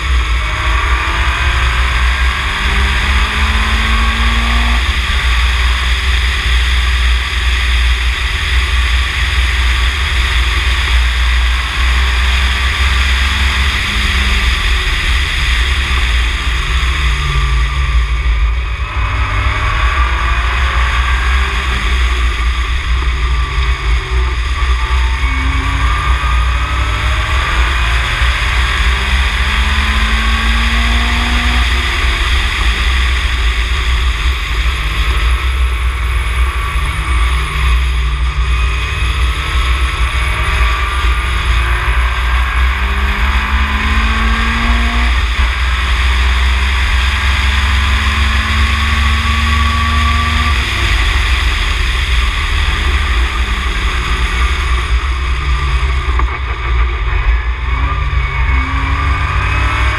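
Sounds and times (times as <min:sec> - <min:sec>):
low wind rumble: 0:00.0 - 0:59.9
race car engine revving: 0:00.0 - 0:59.9.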